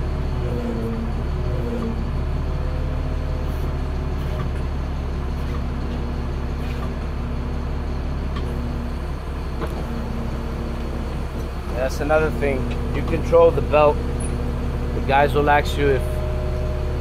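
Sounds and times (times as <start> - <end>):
conveyor engine drone: 0.0 - 17.0.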